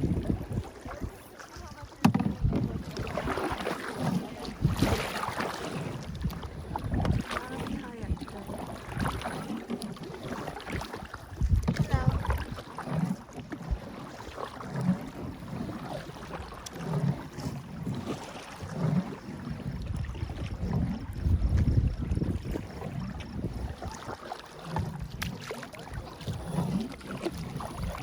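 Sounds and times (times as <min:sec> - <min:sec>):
wind rumbling on microphone: 0:00.0 - 0:14.0, 0:14.7 - 0:28.0
paddle strokes in water: 0:00.0 - 0:28.0.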